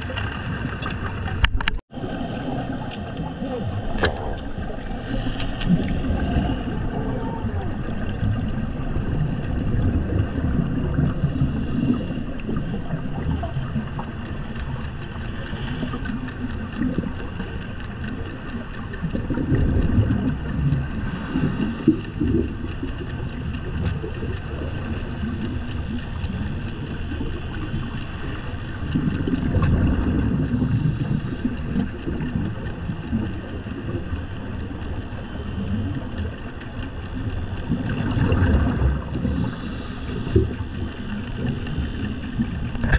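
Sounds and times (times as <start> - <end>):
exhaled bubbles gushing: 0.0 - 42.9
low underwater rumble: 0.0 - 42.9
regulator inhale hiss: 4.7 - 7.2, 7.8 - 19.6, 20.9 - 42.9.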